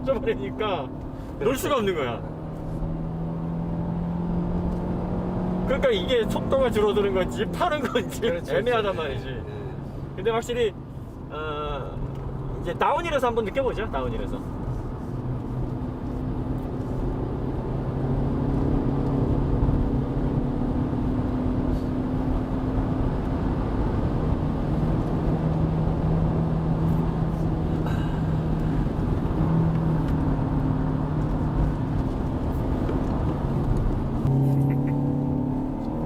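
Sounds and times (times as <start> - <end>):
car engine droning: 0.0 - 36.0
tyre and road noise: 0.0 - 36.0.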